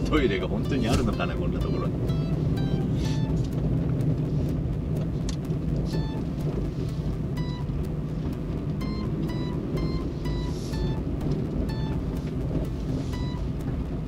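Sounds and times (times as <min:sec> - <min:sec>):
music with plucked notes: 0:00.0 - 0:04.2, 0:04.9 - 0:14.0
vehicle engine and road drone: 0:00.0 - 0:14.0.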